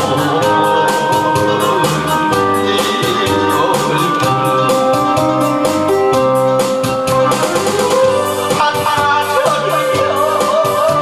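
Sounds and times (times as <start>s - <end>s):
instrumental backing track: 0.0s - 11.0s.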